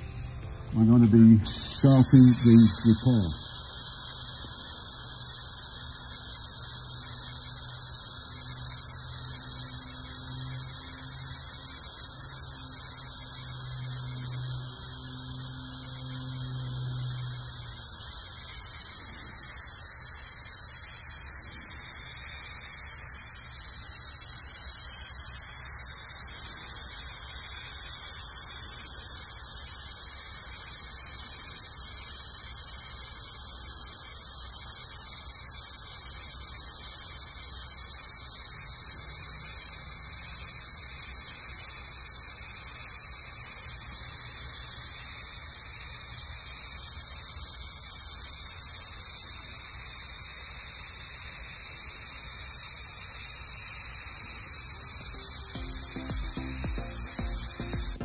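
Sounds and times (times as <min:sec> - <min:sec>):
spray gun hissing: 0:00.0 - 0:58.0.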